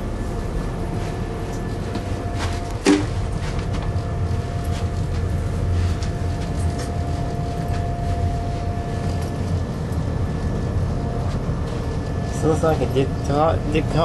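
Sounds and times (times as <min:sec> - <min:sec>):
train rumble: 0:00.0 - 0:14.0
train whine: 0:00.0 - 0:14.0.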